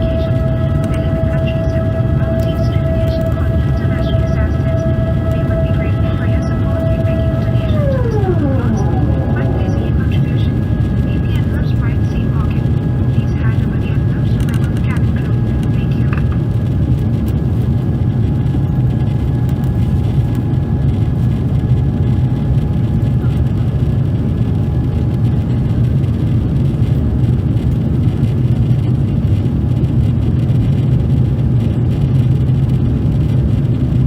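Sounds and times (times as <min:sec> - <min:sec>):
airplane cabin engine rumble: 0:00.0 - 0:34.0
faint steady whine: 0:00.0 - 0:34.0.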